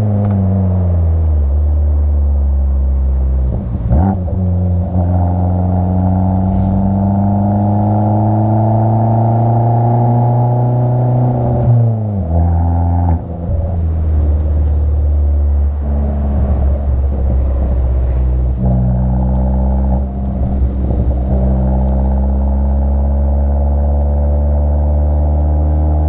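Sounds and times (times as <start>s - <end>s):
car engine driving: 0.0s - 26.0s.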